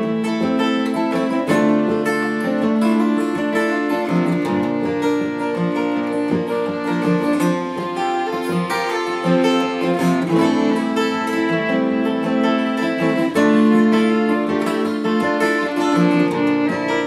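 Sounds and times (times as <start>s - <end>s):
acoustic guitars strumming: 0.0s - 17.0s
fiddle bowing a melody: 0.0s - 17.0s.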